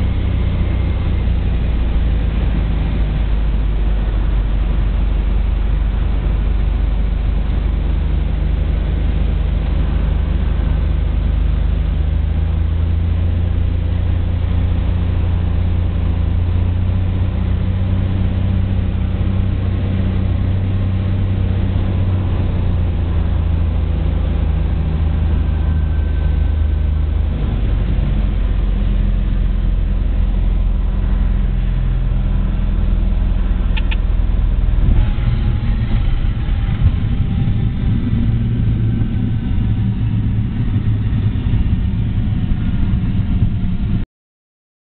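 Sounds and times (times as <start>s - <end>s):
propeller aircraft engine drone: 0.0s - 44.0s.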